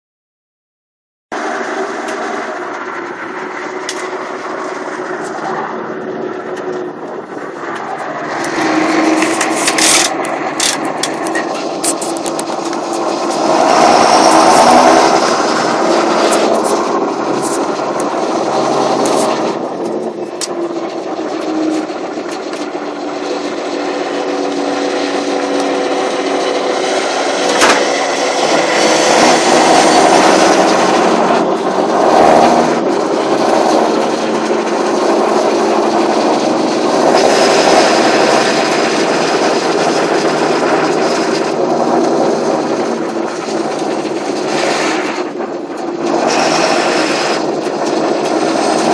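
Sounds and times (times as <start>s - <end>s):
tractor diesel engine running: 1.3s - 48.9s.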